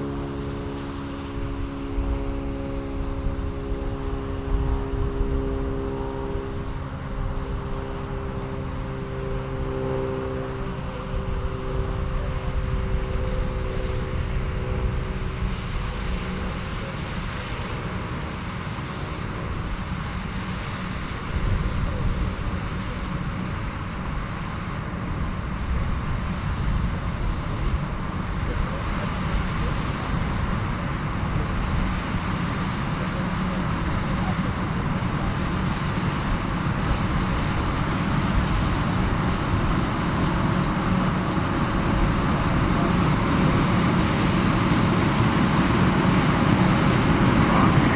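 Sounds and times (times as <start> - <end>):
combine harvester drone: 0.0 - 47.9.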